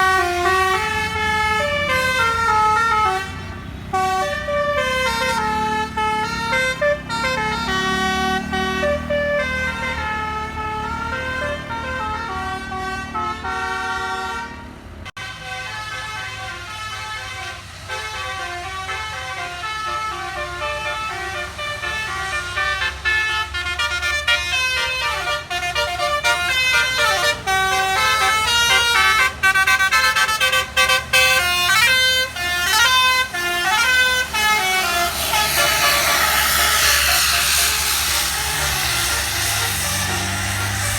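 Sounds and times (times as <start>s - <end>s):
multi-trumpet air horn melody: 0.0s - 40.9s.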